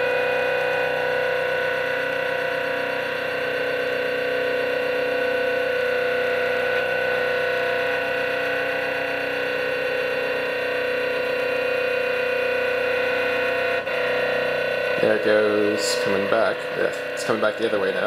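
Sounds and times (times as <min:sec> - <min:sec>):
stepper motors whining: 0:00.0 - 0:18.0.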